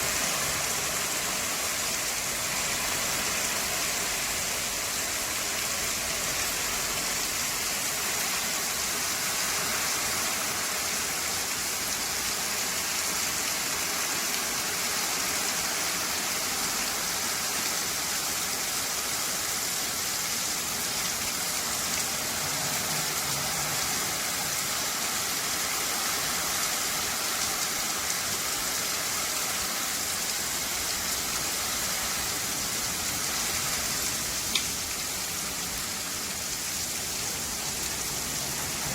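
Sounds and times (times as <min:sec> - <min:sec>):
rain falling on bamboo: 0:00.0 - 0:38.9.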